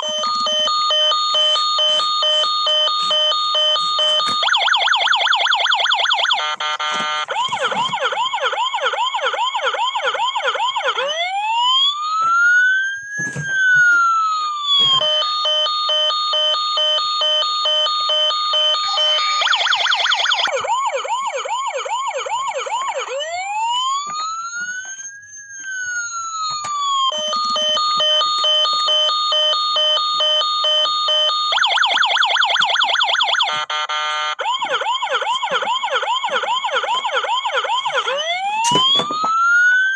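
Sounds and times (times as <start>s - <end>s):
toy fire truck electronic siren: 0.0s - 39.9s.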